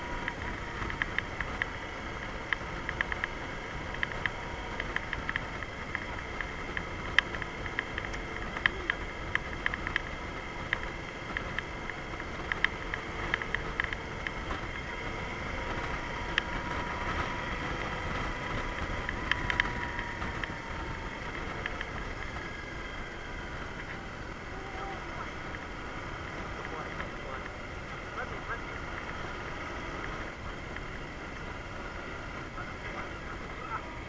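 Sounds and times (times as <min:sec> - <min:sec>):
sharp clicks and rattles: 0:00.0 - 0:33.9
motorcycle engine cruising: 0:00.0 - 0:34.0.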